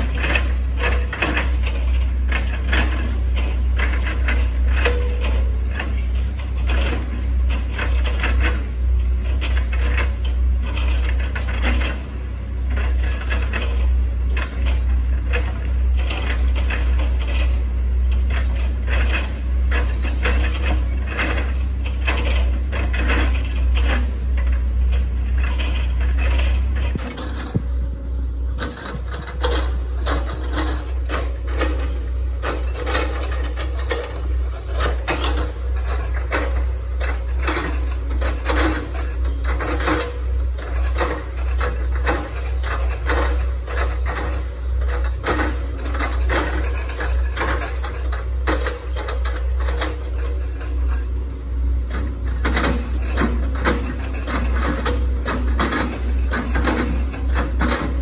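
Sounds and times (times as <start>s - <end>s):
excavator engine droning: 0.0s - 58.0s.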